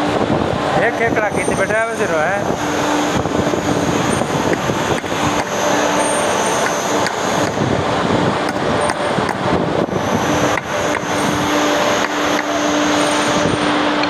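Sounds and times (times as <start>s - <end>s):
steady machine hum: 0.0s - 14.0s
traffic-like background noise: 0.0s - 14.0s.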